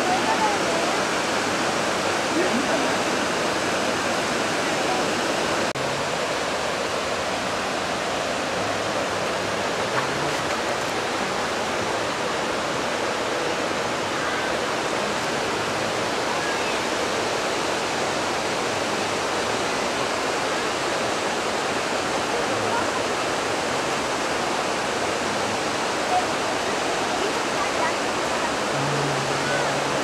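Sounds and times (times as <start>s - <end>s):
river water rushing over boulders: 0.0s - 30.0s.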